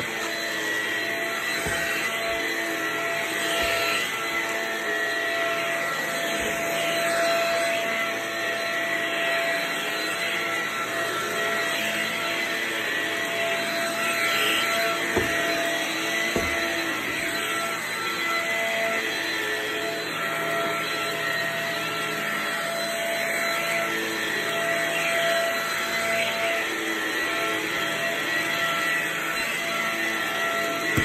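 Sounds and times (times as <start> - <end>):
vacuum cleaner whine: 0.0 - 31.0.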